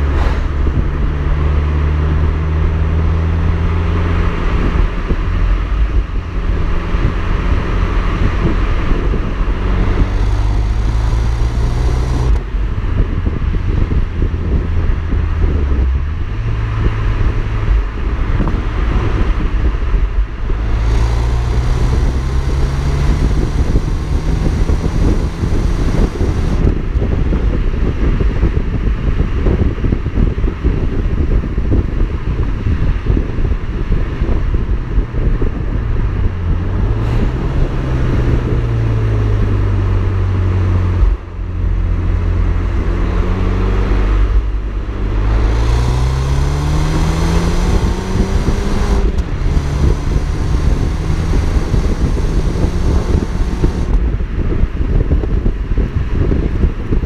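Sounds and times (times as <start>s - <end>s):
car exhaust revving: 0.0s - 27.1s, 34.9s - 54.4s
wind rushing over microphone: 0.0s - 57.0s.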